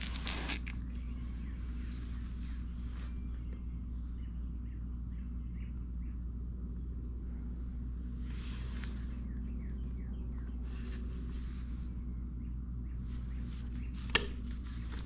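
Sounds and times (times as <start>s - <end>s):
faint bird chirps: 0.8s - 15.0s.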